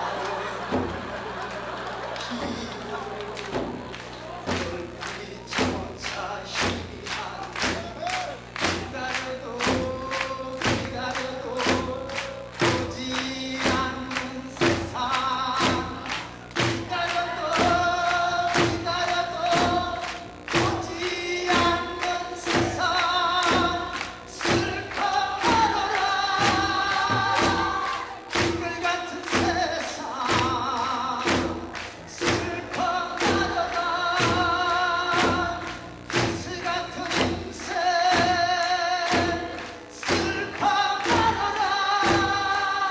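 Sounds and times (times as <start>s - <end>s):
drum beat: 0.0s - 42.9s
man singing with vibrato: 2.2s - 42.9s.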